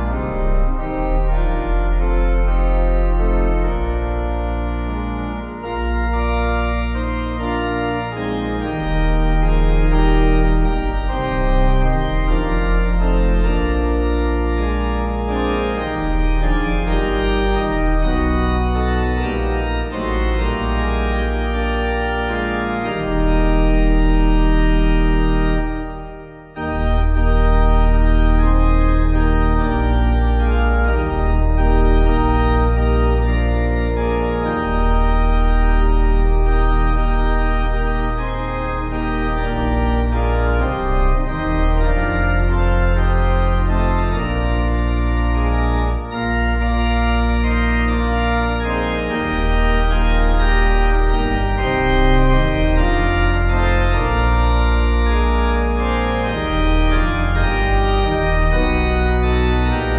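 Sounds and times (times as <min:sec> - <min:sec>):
organ chords: 0:00.0 - 0:59.9.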